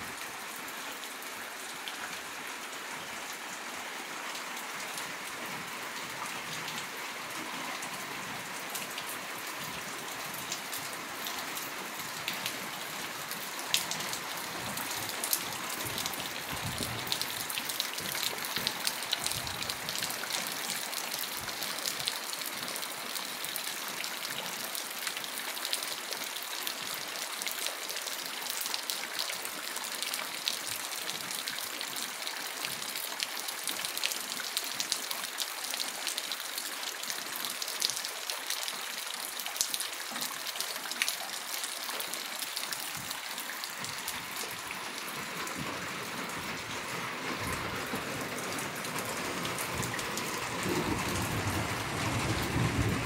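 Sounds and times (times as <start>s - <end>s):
steady rain falling: 0.0s - 53.0s
raindrops ticking close by: 8.4s - 53.0s.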